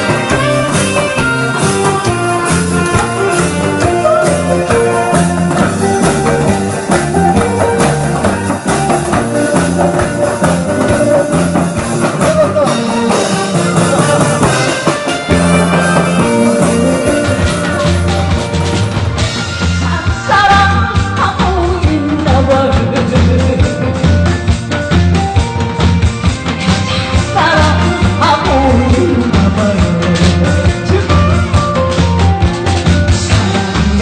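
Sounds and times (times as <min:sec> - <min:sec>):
upbeat trot song: 0:00.0 - 0:34.0.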